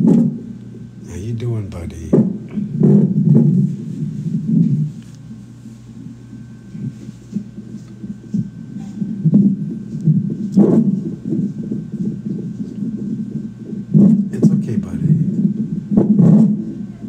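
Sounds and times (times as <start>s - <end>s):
fetal heartbeat pulsing: 0.0s - 5.0s, 6.3s - 17.0s.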